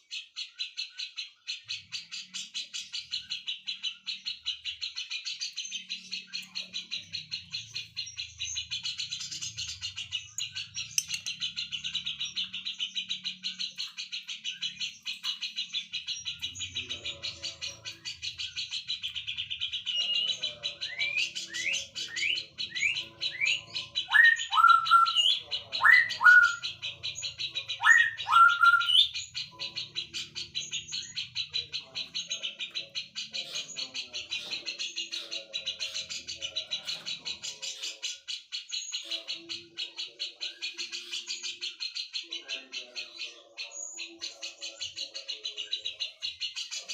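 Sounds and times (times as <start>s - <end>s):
birds singing: 0.0s - 46.9s
loud sweeping bird calls: 0.0s - 46.9s.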